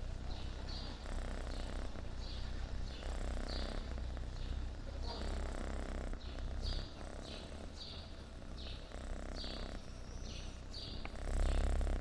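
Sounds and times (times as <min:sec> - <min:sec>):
kitten purring: 0:00.0 - 0:12.0.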